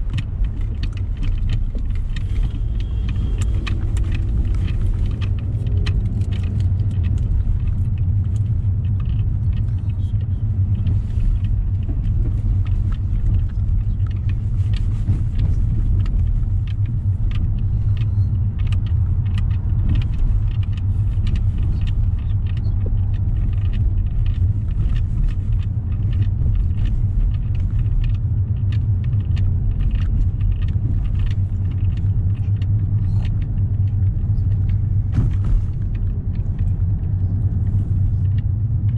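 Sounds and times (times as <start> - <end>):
car road and engine rumble: 0.0 - 38.9
small clicks and rattles: 0.0 - 38.9.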